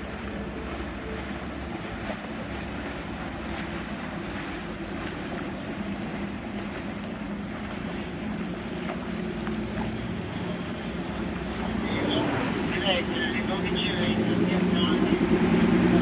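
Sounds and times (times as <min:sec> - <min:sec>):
boat engines humming: 0:00.0 - 0:16.0
water wash from wakes: 0:00.0 - 0:16.0.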